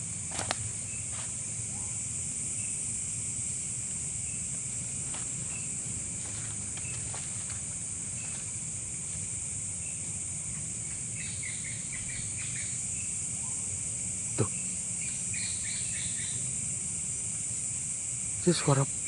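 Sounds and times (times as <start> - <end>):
night insects chorus: 0.0 - 19.0.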